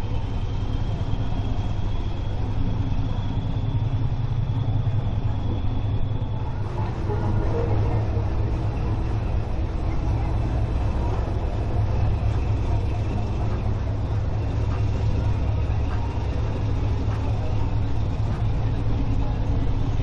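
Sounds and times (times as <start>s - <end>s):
boat engines rumbling: 0.0s - 20.0s.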